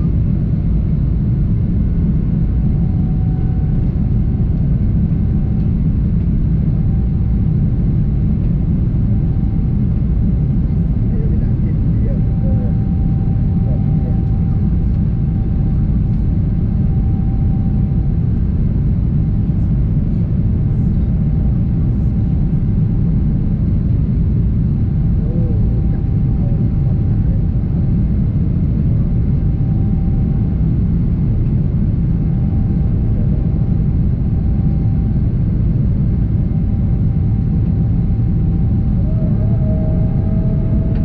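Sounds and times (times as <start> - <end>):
faint steady whine: 0.0 - 41.0
jet engines rumbling: 0.0 - 41.0.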